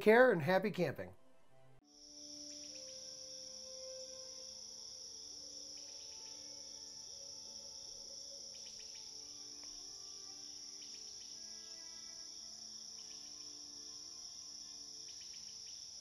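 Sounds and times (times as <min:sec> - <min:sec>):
faint insect chorus: 0:01.8 - 0:16.0
short insect chirps: 0:01.9 - 0:16.0.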